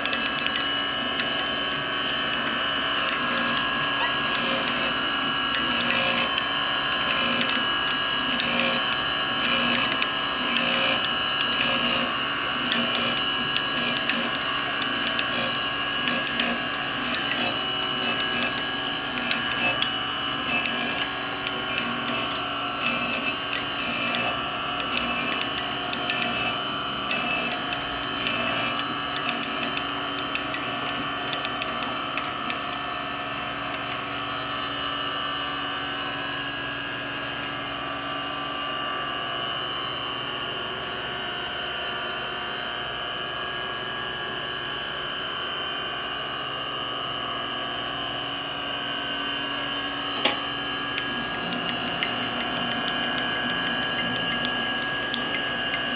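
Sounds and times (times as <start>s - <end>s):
surface grinder whine and hum: 0.0s - 55.9s.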